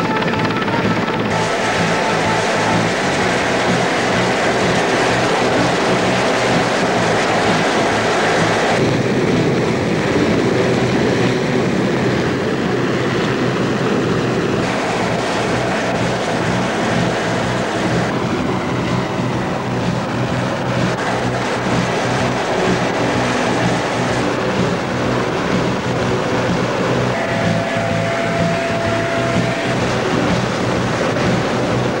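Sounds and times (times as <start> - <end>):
helicopter rotor and engine: 0.0 - 32.0.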